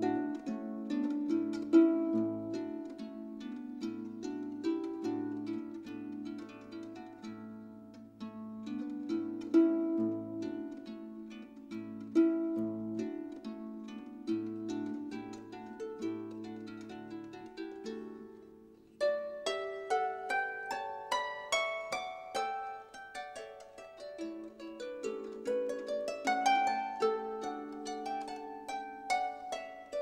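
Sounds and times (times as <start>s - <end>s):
plucked-string background music: 0.0s - 30.0s.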